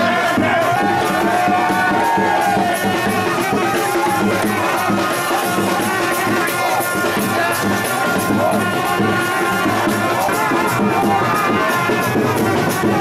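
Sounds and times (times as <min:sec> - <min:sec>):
high ticking percussion: 0:00.0 - 0:13.0.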